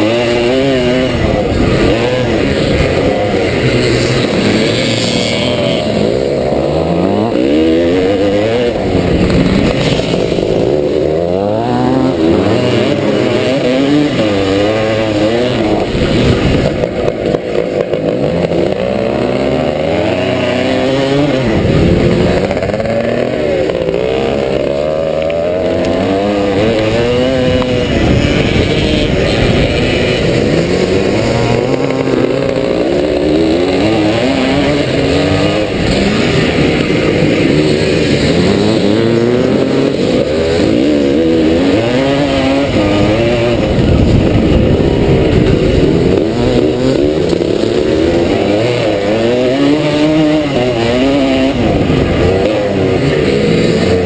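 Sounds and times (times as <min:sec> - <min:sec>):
two-stroke motocross engine revving: 0:00.0 - 0:54.0.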